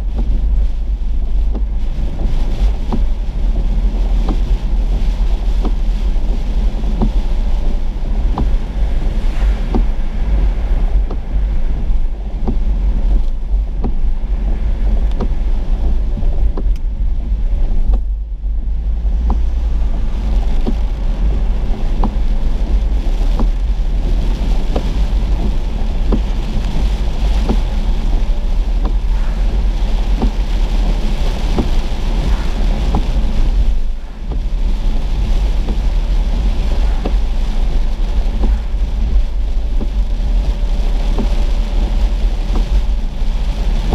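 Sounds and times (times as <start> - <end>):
raindrops ticking on windshield: 0.0 - 43.9
road and wind noise in car: 0.0 - 43.9.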